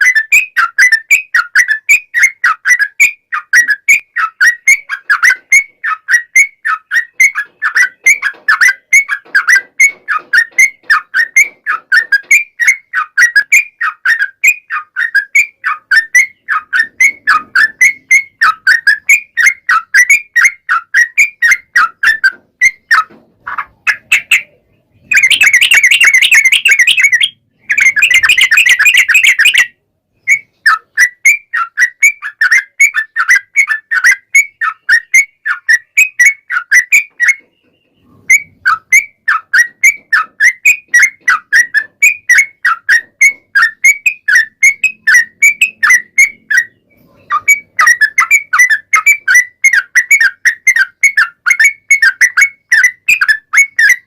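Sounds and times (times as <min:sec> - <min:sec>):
bulbul song: 0:00.0 - 0:54.0.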